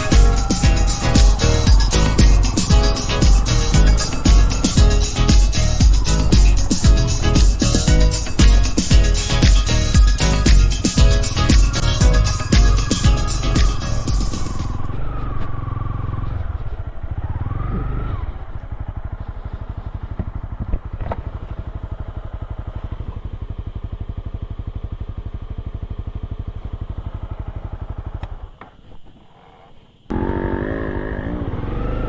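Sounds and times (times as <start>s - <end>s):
motorcycle engine running: 0.0s - 28.8s, 30.1s - 32.0s.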